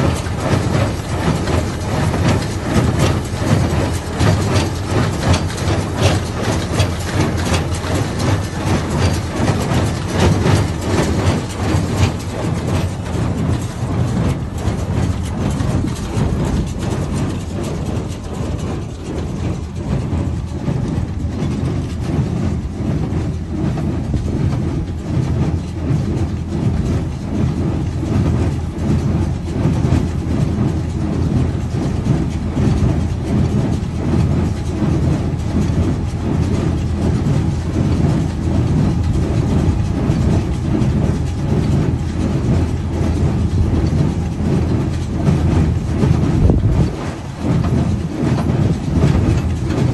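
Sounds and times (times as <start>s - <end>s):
baler mechanical clatter: 0.0s - 49.9s.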